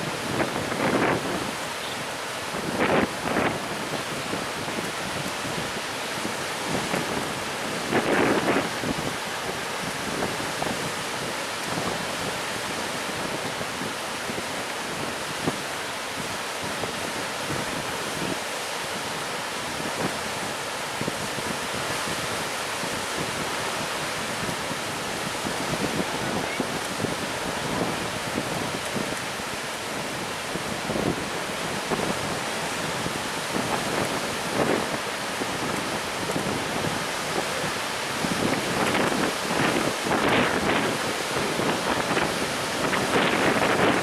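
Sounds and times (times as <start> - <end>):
surf breaking and washing: 0.0 - 44.0
wind buffeting the microphone: 0.0 - 44.0.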